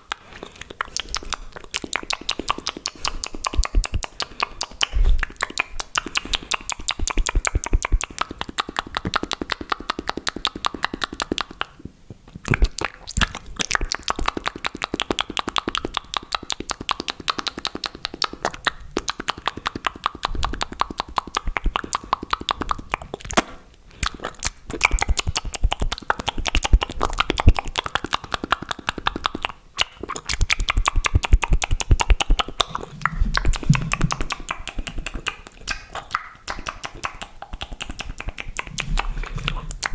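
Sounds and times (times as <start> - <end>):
wet mouth clicks and smacks: 0.0 - 39.9.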